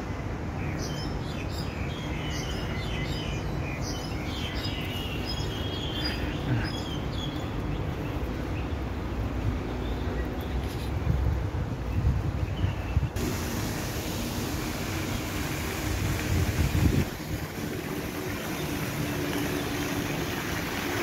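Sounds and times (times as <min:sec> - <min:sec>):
small birds chirping and twittering: 0:00.0 - 0:13.2, 0:16.4 - 0:21.0.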